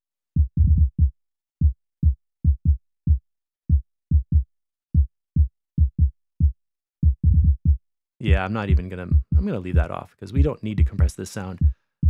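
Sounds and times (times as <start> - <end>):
electronic kick drum thumps: 0.4 - 4.4, 5.0 - 11.1.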